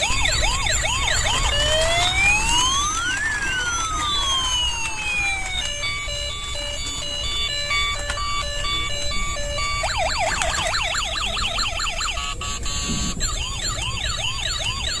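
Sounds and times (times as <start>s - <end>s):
toy beeping tune: 0.0s - 15.0s
toy electronic siren: 0.0s - 15.0s.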